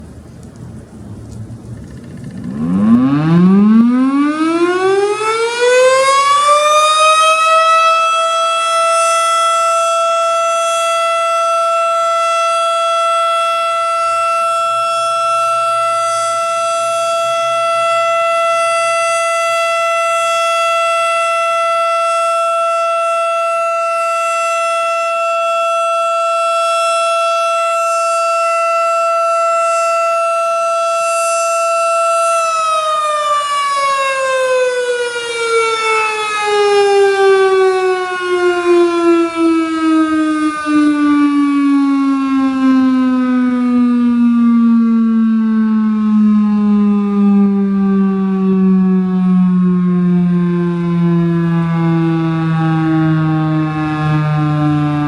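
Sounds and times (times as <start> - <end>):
warning siren rising tone: 0.9 - 55.0.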